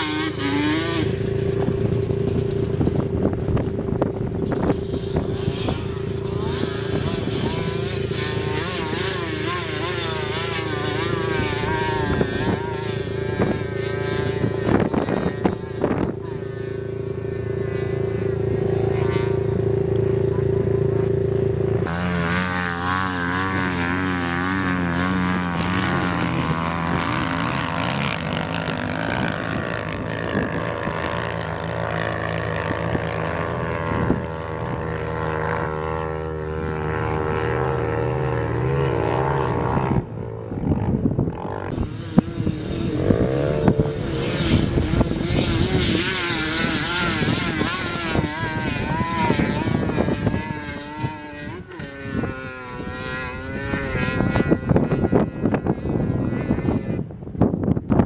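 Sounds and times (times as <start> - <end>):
rough crackly noise: 0.0 - 36.8, 37.4 - 55.2
quad engines revving: 0.0 - 58.0.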